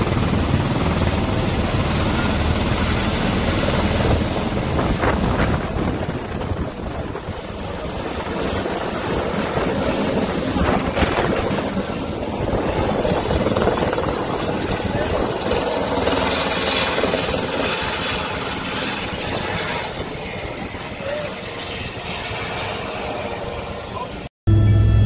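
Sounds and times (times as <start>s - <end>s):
helicopter rotor and turbine rush: 0.0s - 25.0s.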